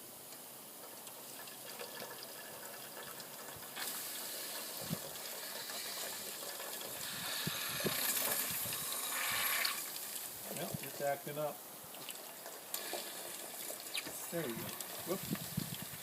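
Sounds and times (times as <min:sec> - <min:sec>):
hiss of steam and water: 0:00.0 - 0:16.0.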